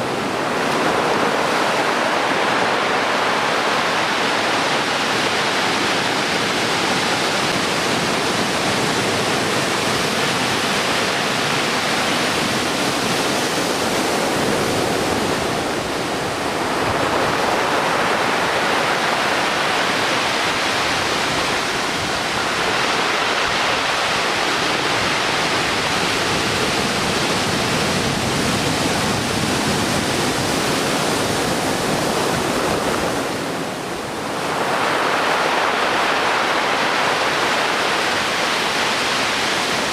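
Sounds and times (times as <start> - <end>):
heavy surf breaking: 0.0 - 39.9.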